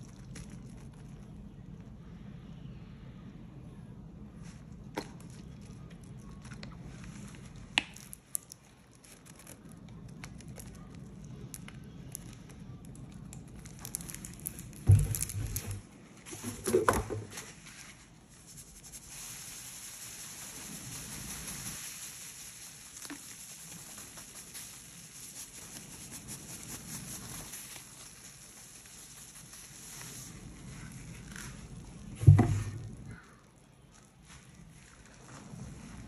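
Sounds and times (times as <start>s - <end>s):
foam crackling and fizzing: 0.0s - 2.3s, 4.4s - 16.8s, 17.5s - 36.0s
powder sprinkling hiss: 0.0s - 2.8s, 4.4s - 36.0s.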